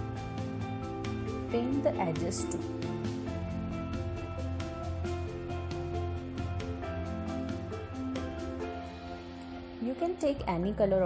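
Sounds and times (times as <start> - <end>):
instrumental music with beat: 0.0 - 9.8.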